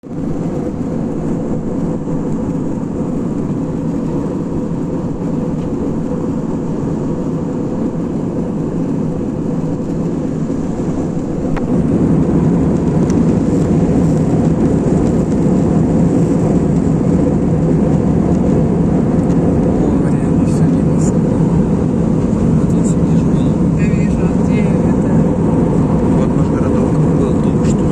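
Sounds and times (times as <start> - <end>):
aeroplane cabin drone: 0.0 - 27.9.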